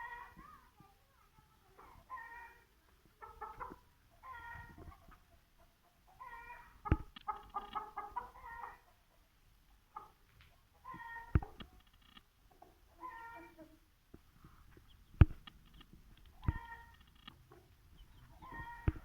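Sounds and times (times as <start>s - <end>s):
chickens calling: 0.0s - 0.7s, 1.6s - 19.0s.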